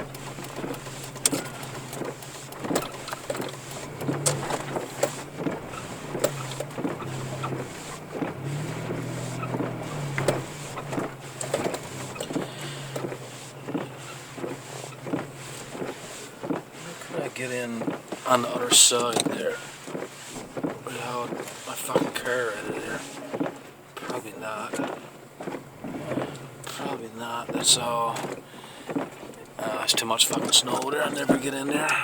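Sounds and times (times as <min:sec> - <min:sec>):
car engine running: 0:00.0 - 0:32.0
knocks and clunks in snow: 0:00.0 - 0:32.0.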